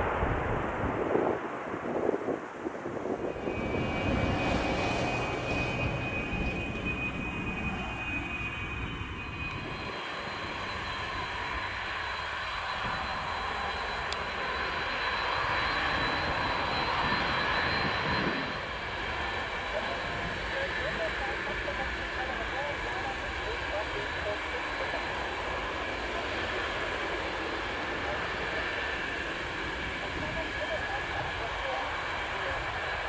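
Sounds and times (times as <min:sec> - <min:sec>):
jet engine roar with high whine: 0:00.0 - 0:33.0.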